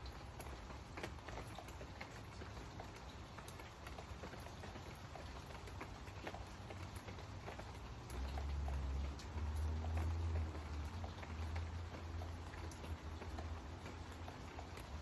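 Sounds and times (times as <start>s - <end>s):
steady rain pattering: 0.0s - 15.0s.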